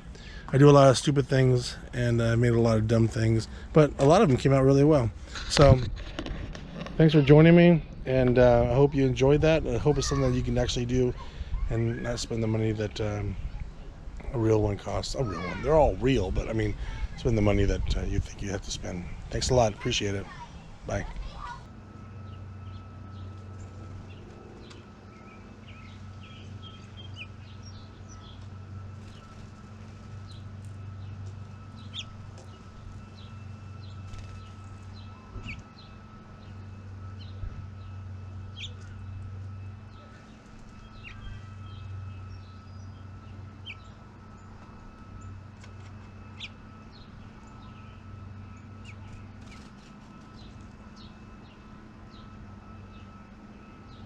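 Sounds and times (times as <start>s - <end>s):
low hum: 0.0s - 54.0s
small birds chirping: 7.0s - 54.0s.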